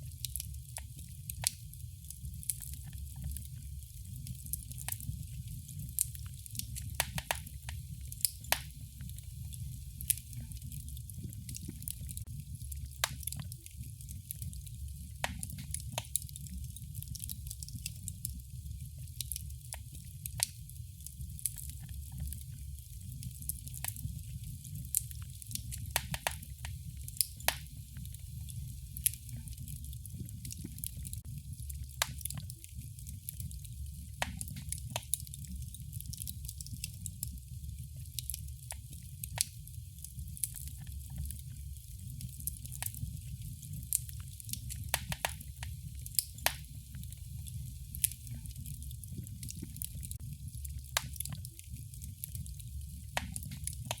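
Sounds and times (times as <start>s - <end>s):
low rumble of burning fire: 0.0s - 54.0s
wood fire popping and snapping: 0.0s - 54.0s.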